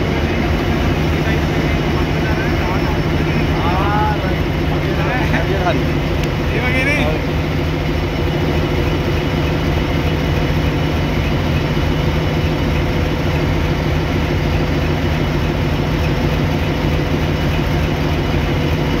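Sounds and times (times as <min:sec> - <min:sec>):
diesel locomotive engine humming: 0:00.0 - 0:19.0.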